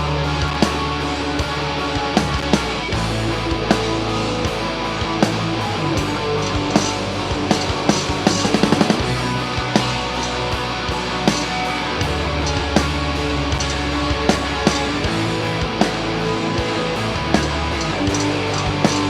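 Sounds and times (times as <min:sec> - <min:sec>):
fast drum run: 0:00.0 - 0:19.0
heavy metal band playing: 0:00.0 - 0:19.0.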